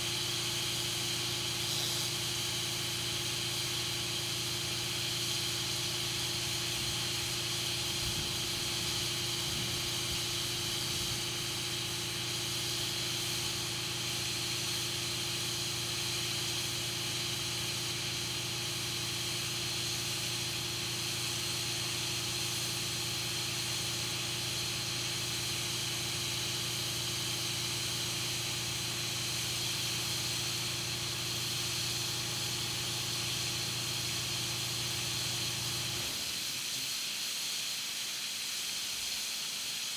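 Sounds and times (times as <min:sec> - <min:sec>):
air hissing through a valve: 0:00.0 - 0:39.9.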